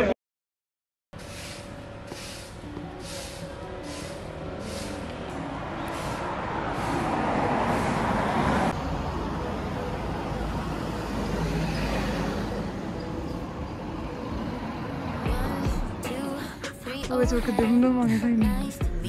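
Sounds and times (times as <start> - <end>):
deep traffic rumble: 1.2 - 19.0
road traffic noise: 1.2 - 19.0.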